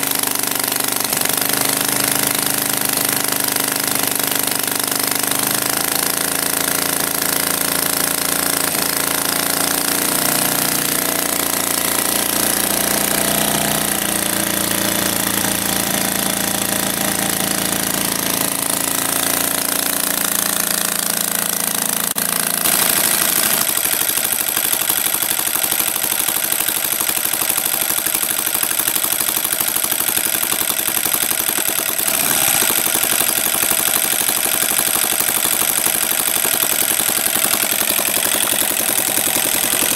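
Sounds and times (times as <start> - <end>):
model aircraft engine running: 0.0 - 39.9.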